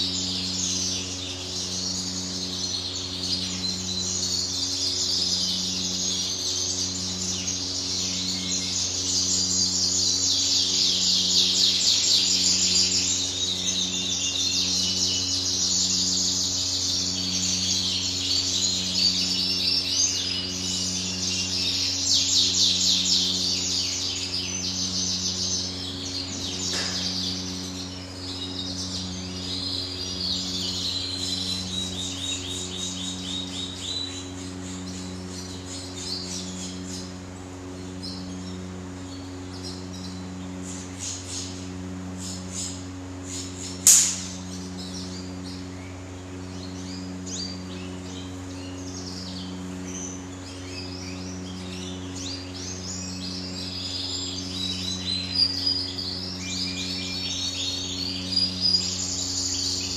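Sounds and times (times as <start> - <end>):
goldfinches singing and twittering: 0.0 - 59.9
low pulsing hum: 0.0 - 59.9.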